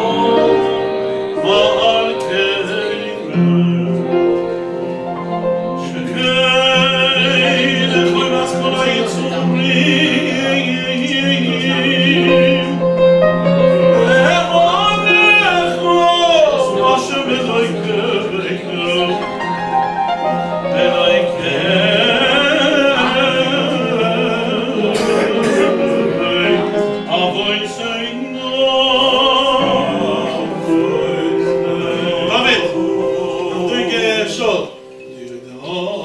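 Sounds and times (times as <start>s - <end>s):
grand piano: 0.0s - 36.0s
man singing with vibrato: 0.0s - 36.0s.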